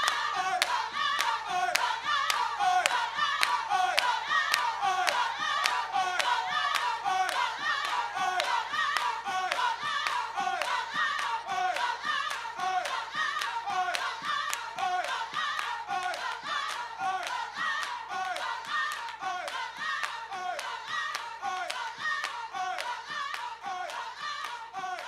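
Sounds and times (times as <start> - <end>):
gospel choir singing: 0.0 - 25.0
people clapping in rhythm: 0.0 - 25.0.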